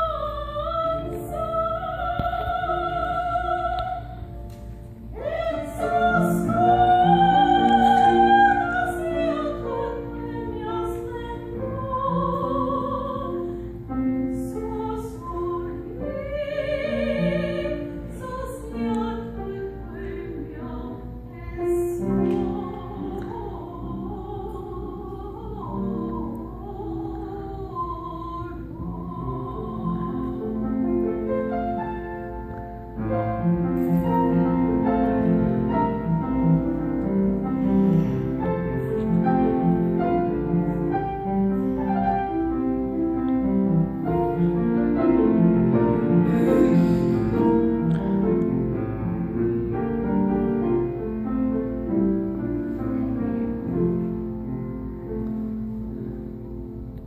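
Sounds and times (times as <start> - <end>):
classical piano music: 0.0 - 57.0.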